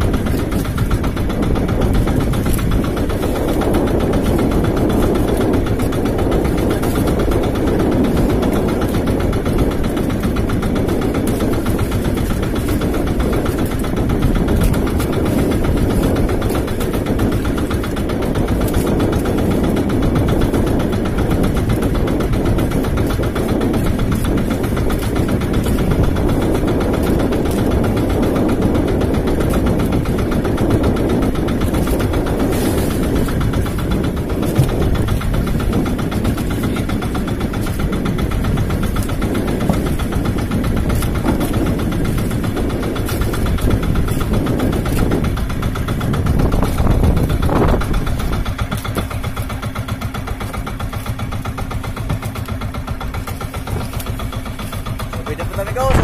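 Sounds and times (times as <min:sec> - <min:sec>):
boat engine running: 0:00.0 - 0:56.0
rushing water: 0:00.0 - 0:56.0
wind: 0:00.0 - 0:56.0.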